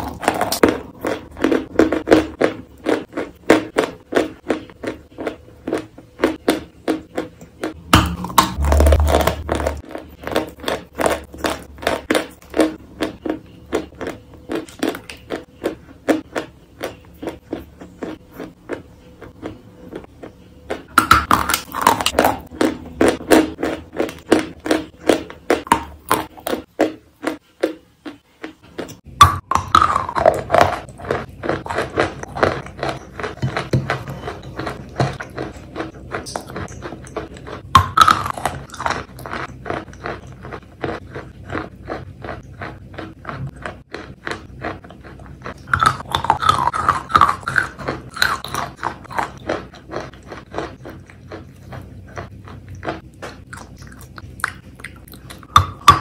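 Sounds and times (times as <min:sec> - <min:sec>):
wet chewing and squelches: 0:00.0 - 0:56.0.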